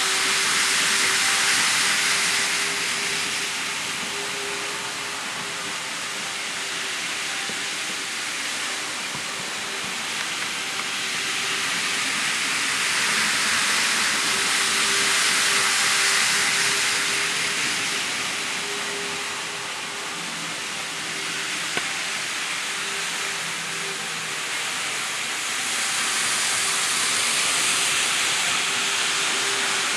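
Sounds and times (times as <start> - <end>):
model train running on track: 0.0 - 29.9.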